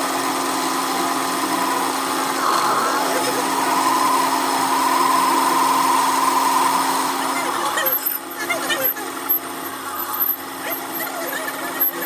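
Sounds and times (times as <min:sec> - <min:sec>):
workshop machine whining: 0:00.0 - 0:12.0.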